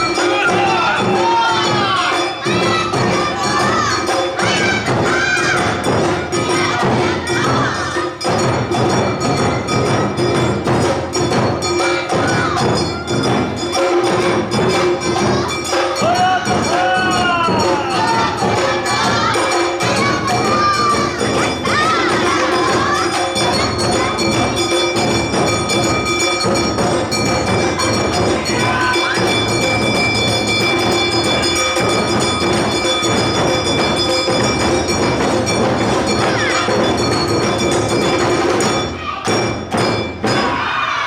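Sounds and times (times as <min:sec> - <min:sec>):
clanging bell-gong: 0:00.0 - 0:40.6
drums: 0:00.0 - 0:41.0.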